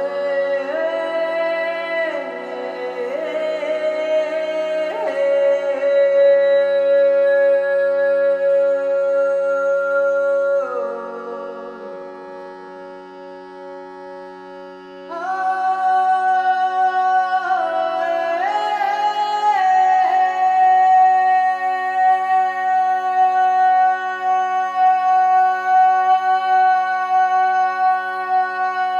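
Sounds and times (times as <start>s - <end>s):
person chanting and humming: 0.0s - 12.6s, 15.1s - 28.9s.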